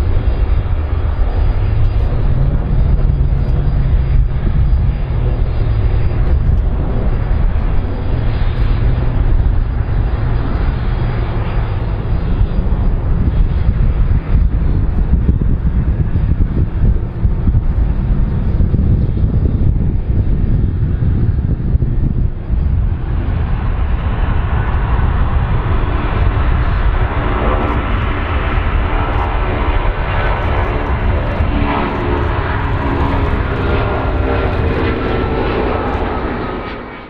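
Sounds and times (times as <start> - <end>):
jet engines rumbling: 0.0 - 37.0
wind buffeting microphone: 0.0 - 37.0.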